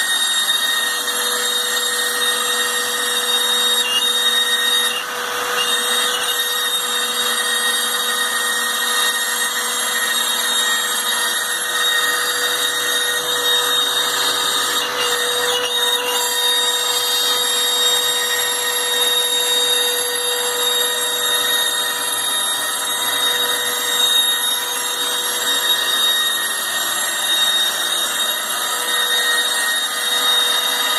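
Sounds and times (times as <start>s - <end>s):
cutter milling through stock: 0.0s - 30.9s
spindle motor whine: 0.0s - 30.9s.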